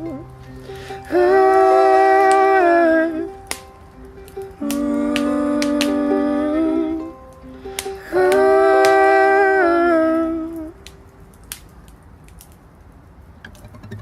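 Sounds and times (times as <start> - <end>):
wood fire crackling: 0.0 - 13.6.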